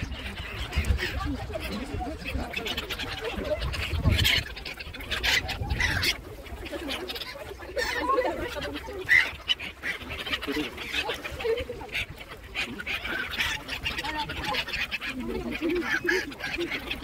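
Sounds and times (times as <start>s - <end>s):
ducks quacking: 0.0s - 17.0s
gulls squawking: 0.0s - 17.0s.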